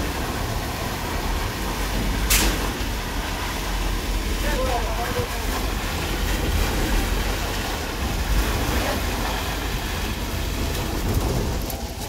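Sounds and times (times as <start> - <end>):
concrete pump running: 0.0 - 12.0.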